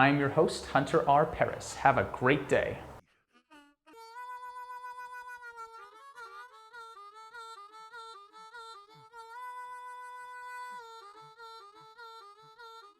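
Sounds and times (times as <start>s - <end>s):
harmonica blues: 0.2s - 12.9s.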